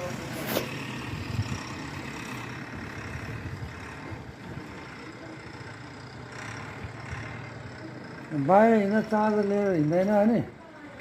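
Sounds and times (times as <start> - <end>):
motor vehicle rumble and hum: 0.0 - 11.0.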